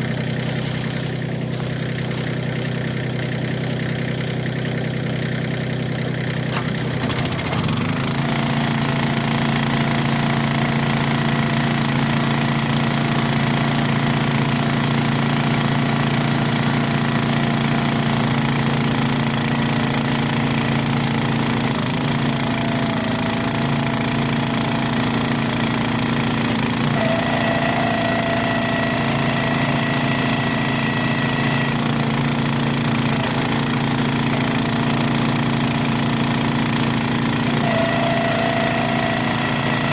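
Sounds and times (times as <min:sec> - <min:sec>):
engine running with knocking rattle: 0:00.0 - 0:39.9.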